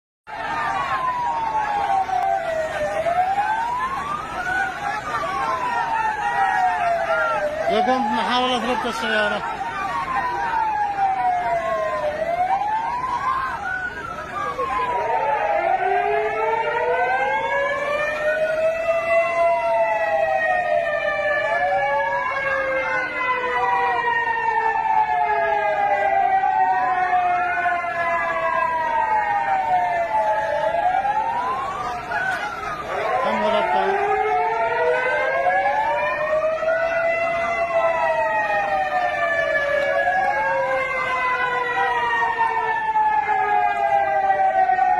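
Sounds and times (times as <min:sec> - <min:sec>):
sirens wailing: 0:00.3 - 0:44.9.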